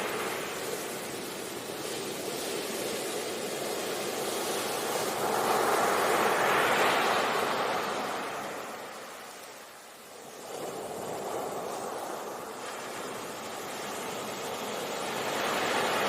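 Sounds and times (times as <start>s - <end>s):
sea waves breaking on beach: 0.0s - 16.0s.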